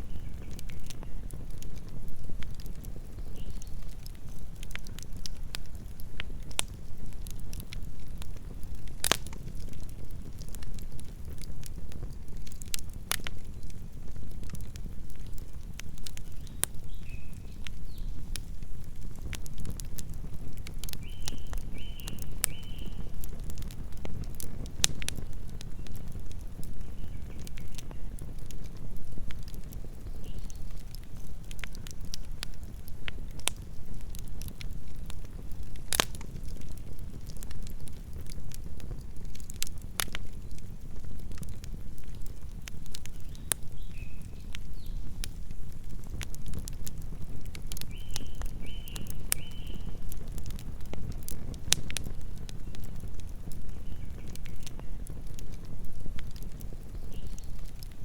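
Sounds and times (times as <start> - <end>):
campfire flames rumbling: 0.0 - 58.0
wood crackling and popping: 0.0 - 58.0.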